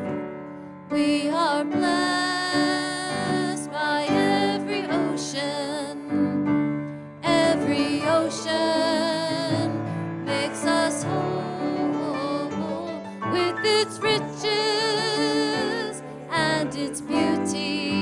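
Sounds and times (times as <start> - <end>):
piano accompaniment: 0.0 - 18.0
choir singing a hymn: 1.2 - 5.9, 7.3 - 18.0.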